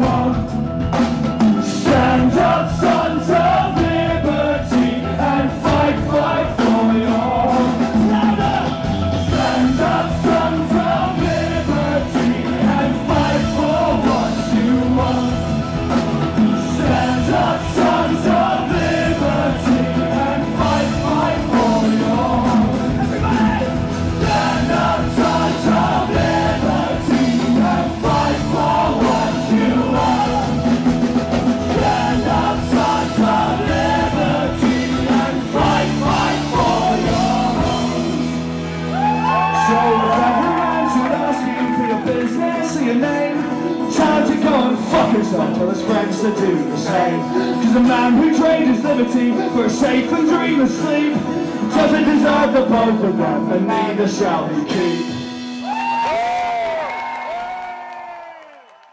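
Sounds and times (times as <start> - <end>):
rock band playing: 0.0 - 57.6
person singing: 1.8 - 30.9, 31.6 - 57.8.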